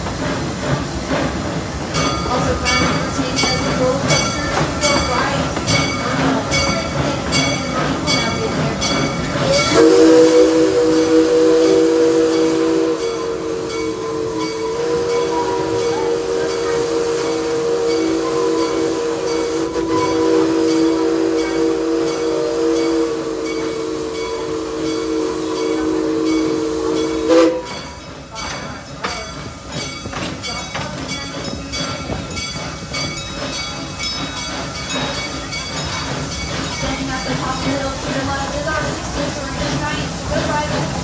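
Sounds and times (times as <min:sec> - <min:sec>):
train wheels clicking: 0:00.0 - 0:41.0
locomotive chime whistle: 0:02.0 - 0:40.9.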